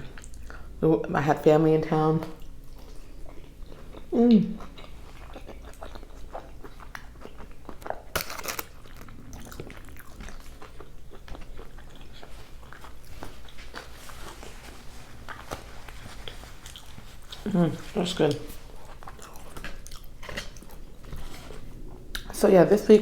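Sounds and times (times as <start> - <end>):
person chewing with mouth smacks: 0.0 - 0.8, 2.2 - 22.4.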